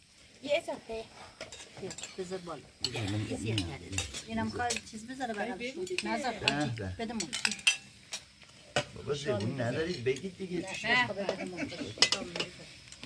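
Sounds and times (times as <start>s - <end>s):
utensils clinking on plates: 1.4s - 13.0s.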